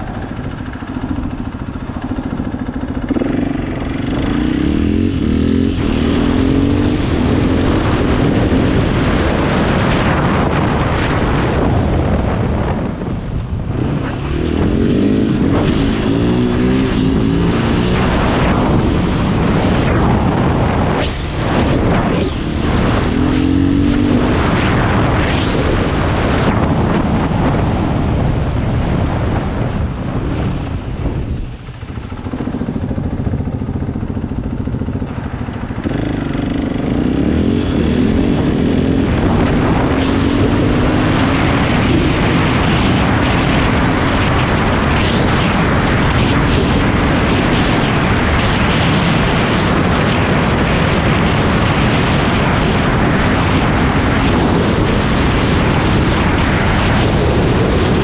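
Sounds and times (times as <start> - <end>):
motorcycle engine accelerating: 0.0 - 58.0
steady rushing noise: 0.0 - 58.0.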